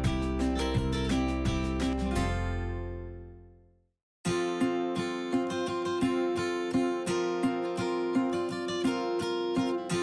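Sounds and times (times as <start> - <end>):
acoustic guitar music: 0.0 - 3.6, 4.2 - 10.0.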